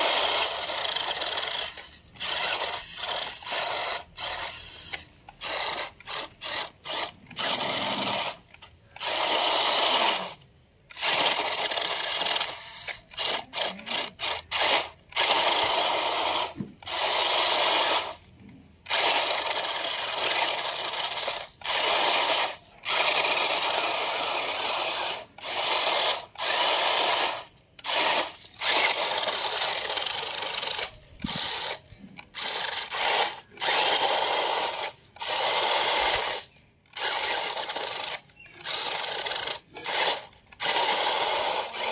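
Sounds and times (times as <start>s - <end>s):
toy car motor whirring: 0.0s - 41.9s
tyres rattling corn kernels: 0.0s - 41.9s.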